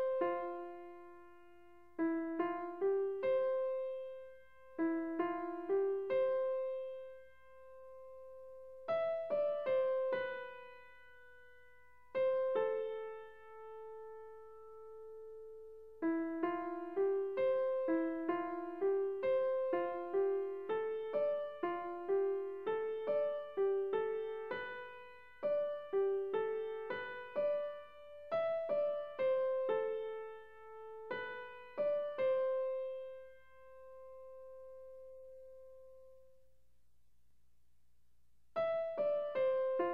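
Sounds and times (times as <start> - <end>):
slow piano melody: 0.0 - 36.4, 38.6 - 39.9.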